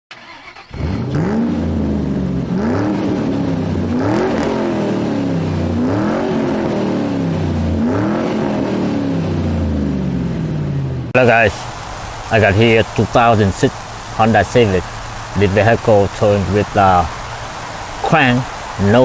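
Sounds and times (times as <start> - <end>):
car engine revving: 0.1 - 19.0.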